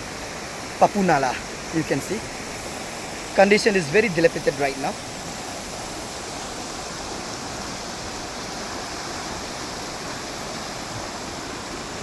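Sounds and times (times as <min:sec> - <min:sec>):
stream rushing in flood: 0:00.0 - 0:12.0.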